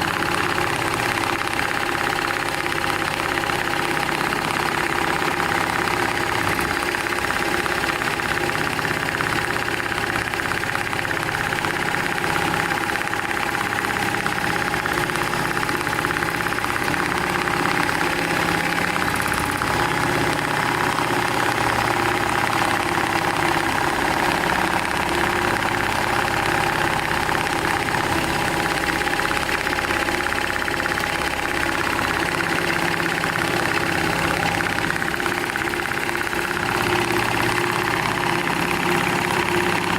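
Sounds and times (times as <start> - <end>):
sewing machine running: 0.0 - 39.9.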